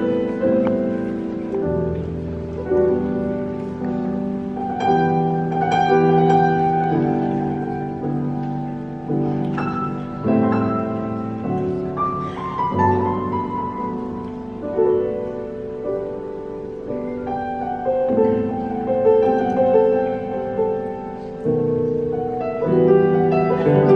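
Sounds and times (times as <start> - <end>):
grand piano chords: 0.0 - 23.9.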